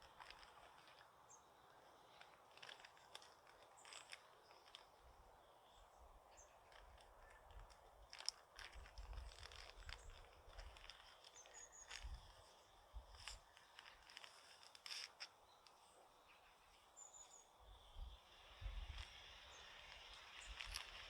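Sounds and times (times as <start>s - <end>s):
soft crackles: 0.0s - 21.0s.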